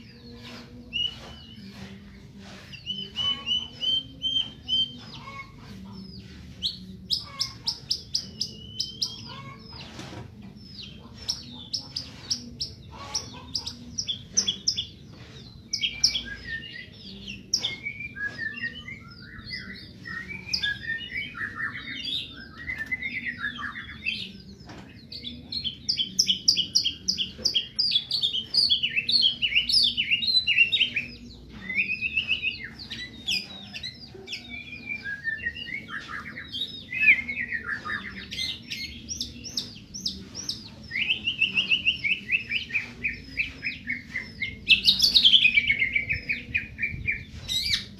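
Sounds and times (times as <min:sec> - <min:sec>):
songbird singing varied song: 0:00.0 - 0:47.9.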